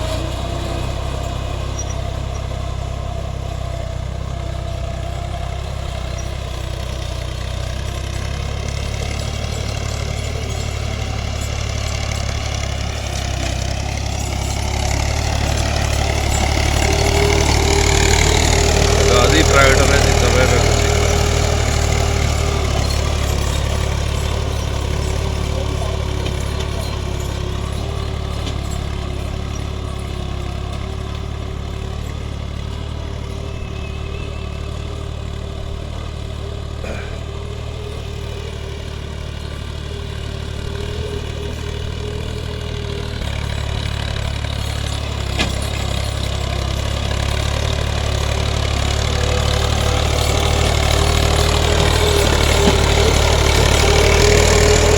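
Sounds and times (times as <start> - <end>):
tractor diesel engine: 0.0 - 54.9.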